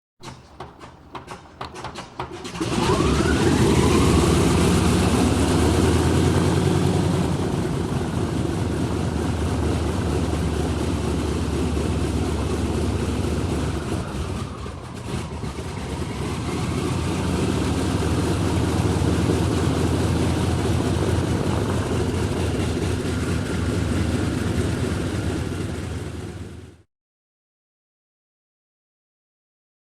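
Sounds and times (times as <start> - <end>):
airplane engine starting: 0.2 - 26.9.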